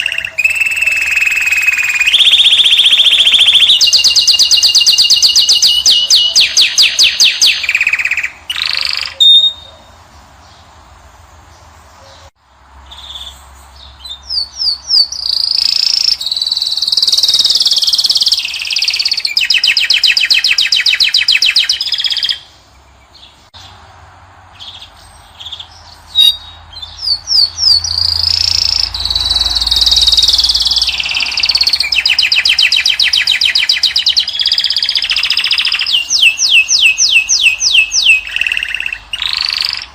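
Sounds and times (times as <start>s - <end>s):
finch singing trills: 0.0s - 10.7s, 12.9s - 23.7s, 24.6s - 39.9s.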